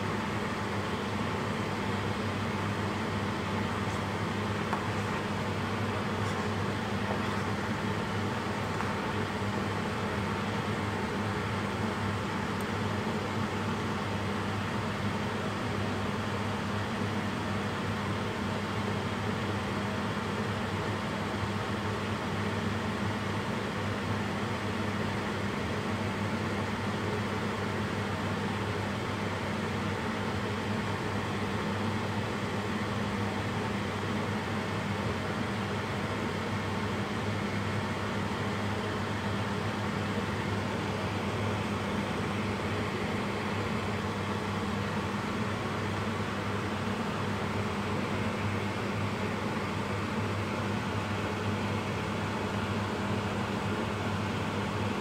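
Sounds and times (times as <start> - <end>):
electric fan hum: 0.0 - 55.0.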